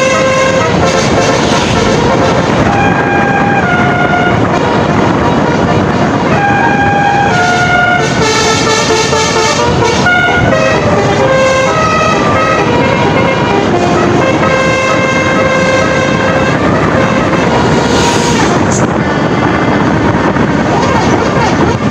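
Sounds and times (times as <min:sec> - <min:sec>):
bus musical horn tune: 0:00.0 - 0:20.4, 0:21.1 - 0:21.9
steady vehicle noise: 0:00.0 - 0:21.9.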